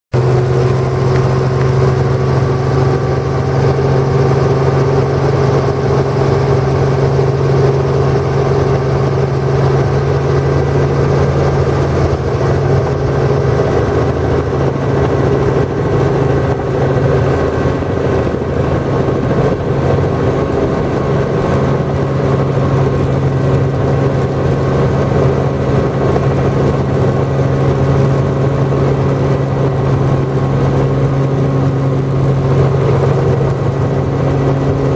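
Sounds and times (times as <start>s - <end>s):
helicopter engine and rotor: 0.1s - 34.9s.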